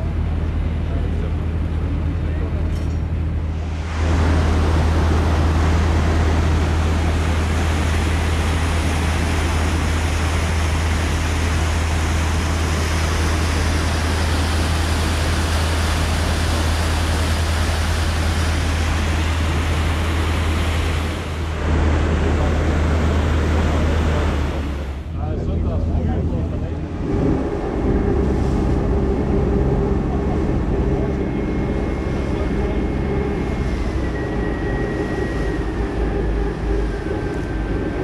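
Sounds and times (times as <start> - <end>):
ferry engine humming: 0.0 - 38.0
propeller wash rushing: 0.0 - 38.0.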